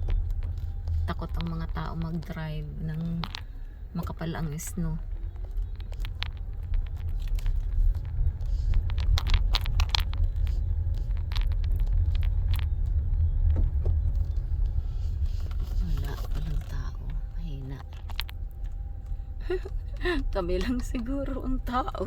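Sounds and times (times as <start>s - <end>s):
car road rumble: 0.0s - 22.0s
sharp clicks and crackles: 0.0s - 22.0s.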